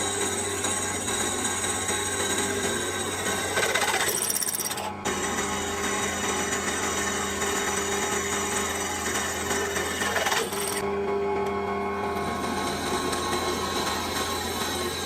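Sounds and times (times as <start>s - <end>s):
drill press motor hum: 0.0s - 10.8s, 12.2s - 15.0s.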